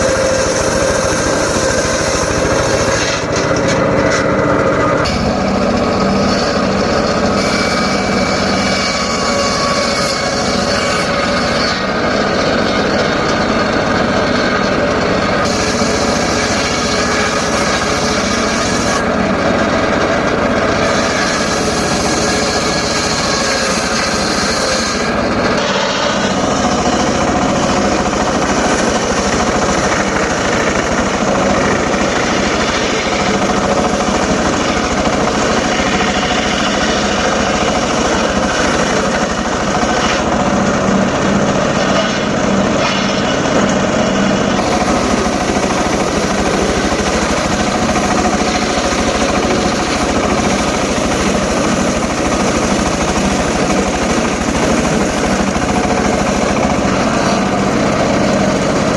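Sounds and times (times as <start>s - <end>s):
circular saw cutting wood: 0.0s - 58.9s.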